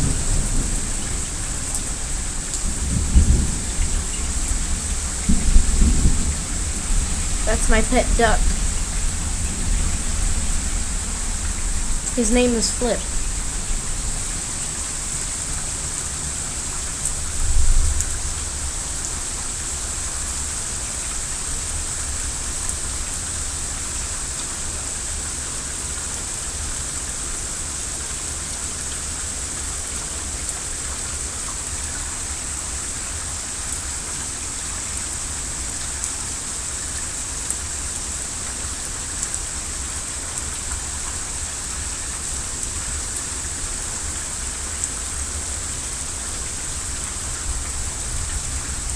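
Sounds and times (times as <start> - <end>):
rain pattering: 0.0 - 48.9.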